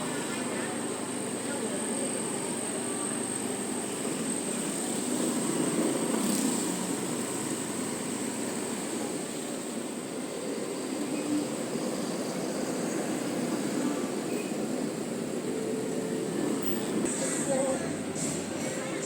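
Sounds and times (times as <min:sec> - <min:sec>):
motor scooter running: 0:00.0 - 0:19.0
street noise: 0:00.0 - 0:19.0.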